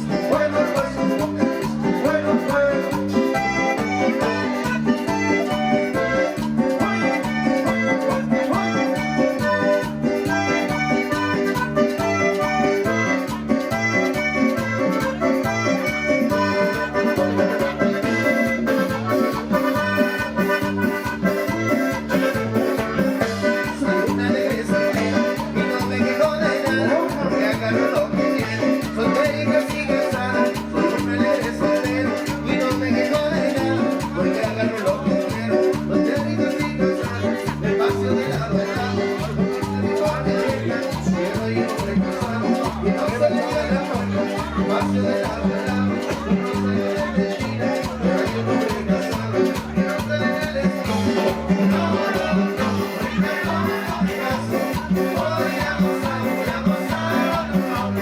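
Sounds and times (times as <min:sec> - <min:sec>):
keyboard melody: 0:00.0 - 0:58.0
live latin dance music: 0:00.0 - 0:58.0
pulsing bass beat: 0:00.0 - 0:58.0.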